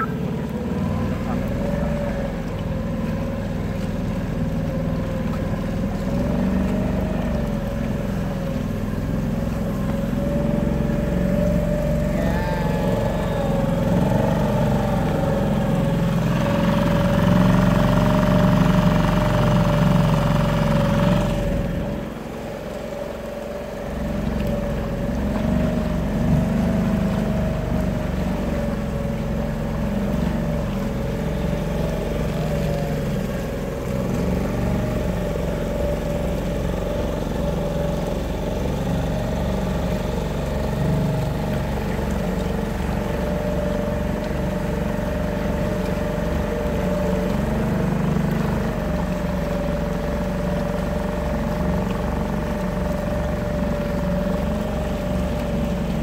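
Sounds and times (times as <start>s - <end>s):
boat motor running: 0.0s - 56.0s.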